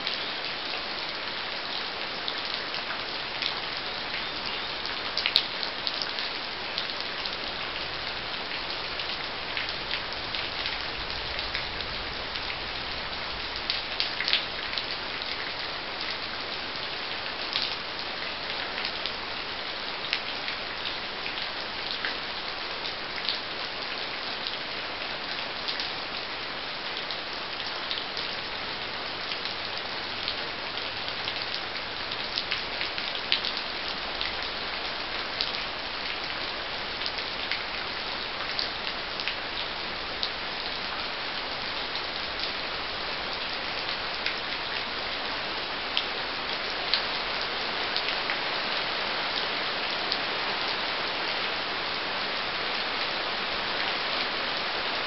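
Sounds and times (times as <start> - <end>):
raindrops ticking and popping: 0.0 - 55.0
steady rain falling: 0.0 - 55.0.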